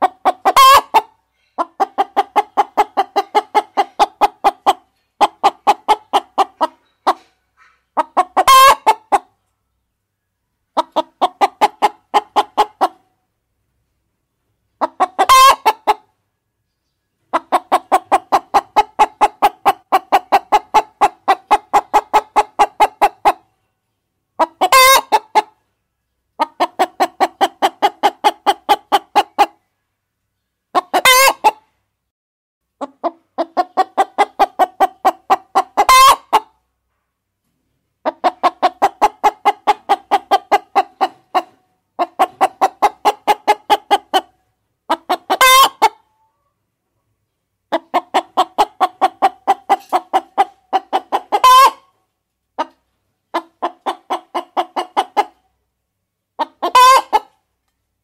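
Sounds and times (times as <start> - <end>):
hen clucking: 0.0 - 9.6, 10.6 - 13.2, 14.6 - 16.2, 16.8 - 23.7, 24.3 - 29.7, 30.4 - 31.8, 32.8 - 36.7, 37.9 - 46.6, 47.6 - 55.7, 56.3 - 57.7.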